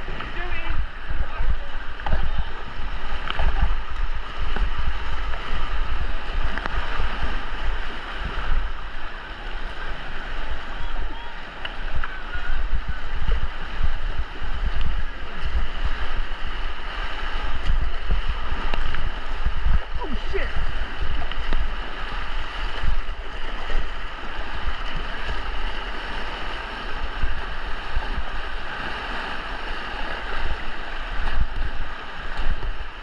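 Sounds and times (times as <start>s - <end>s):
rushing white water: 0.0s - 33.0s
wind buffeting microphone: 0.0s - 33.0s.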